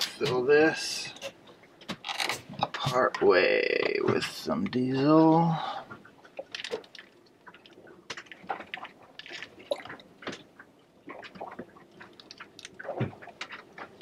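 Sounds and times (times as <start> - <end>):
drips and splashes: 0.0 - 14.0.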